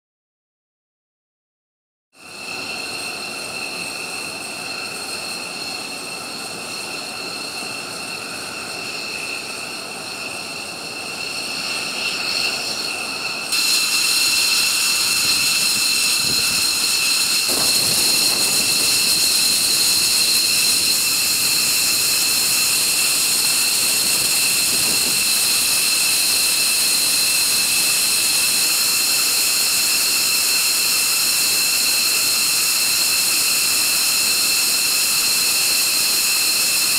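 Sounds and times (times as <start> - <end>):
jet engine turbine whine: 2.2 - 36.9.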